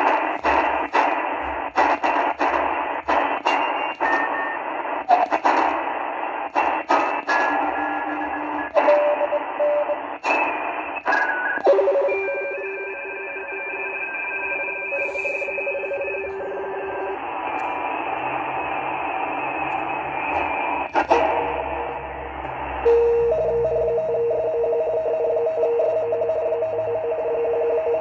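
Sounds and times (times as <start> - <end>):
radio band hiss: 0.0 - 28.0
steady whistling radio tones: 0.0 - 28.0.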